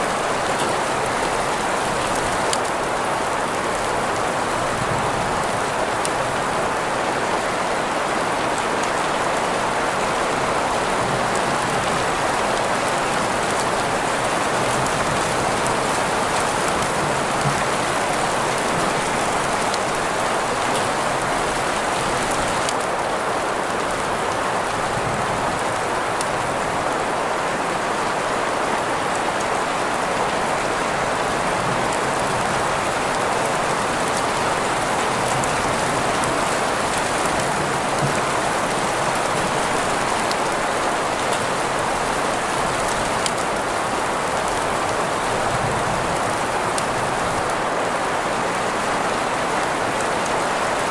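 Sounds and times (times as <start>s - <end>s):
rainfall: 0.0s - 50.9s.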